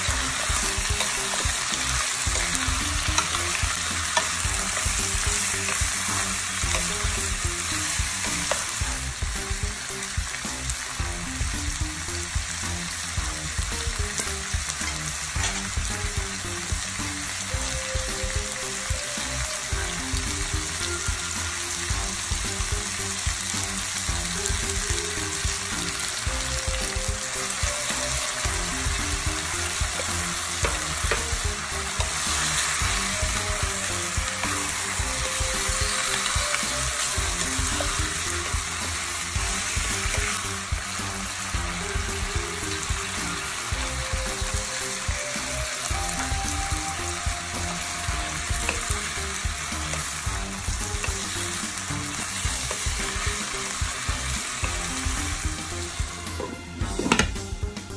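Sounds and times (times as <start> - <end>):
food sizzling in a frying pan: 0.0 - 57.9.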